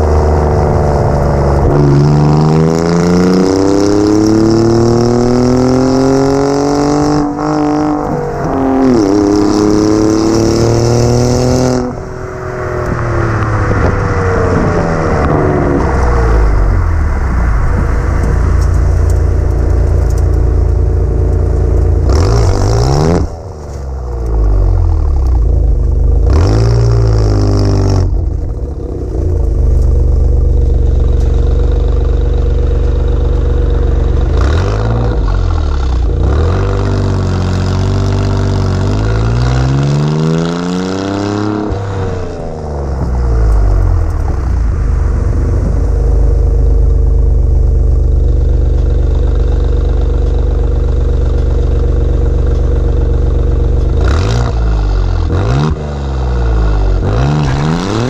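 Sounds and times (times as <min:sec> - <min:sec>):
car engine revving and idling: 0:00.0 - 0:58.0.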